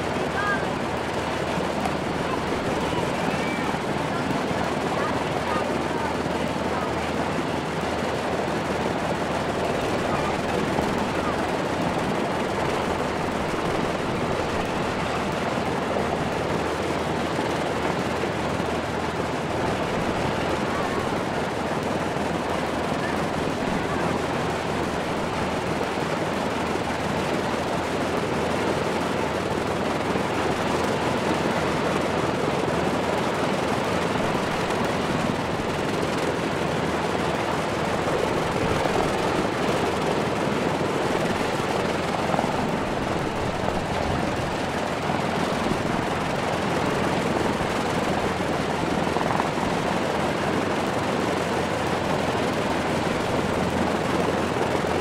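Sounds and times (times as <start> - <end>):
propeller aircraft engines running: 0.0 - 55.0.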